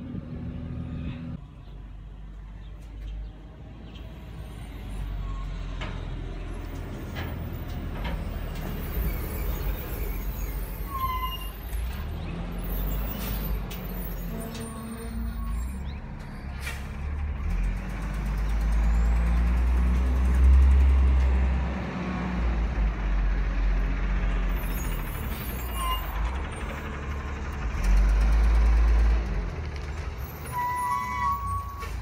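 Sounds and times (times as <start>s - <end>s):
garbage truck diesel engine: 3.3s - 32.0s.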